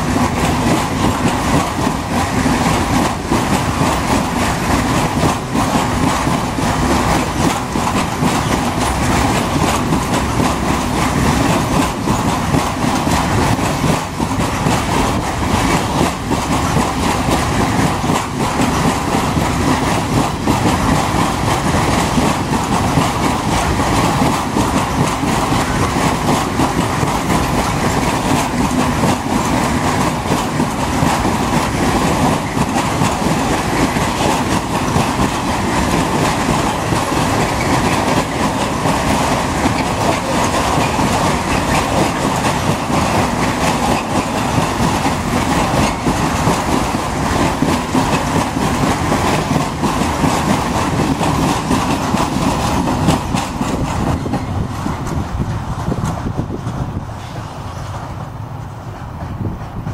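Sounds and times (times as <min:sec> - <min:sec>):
freight train rumbling: 0:00.0 - 0:59.9
steel wheels clattering on rails: 0:00.0 - 0:59.9.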